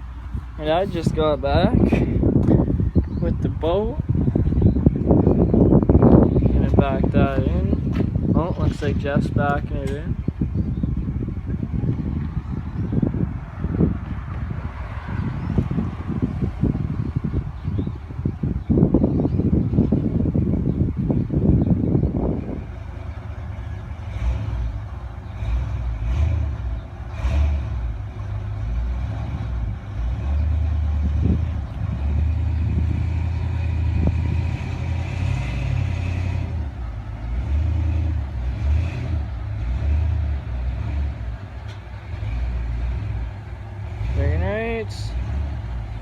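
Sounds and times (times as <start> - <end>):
vehicle engine running low: 0.0 - 46.0.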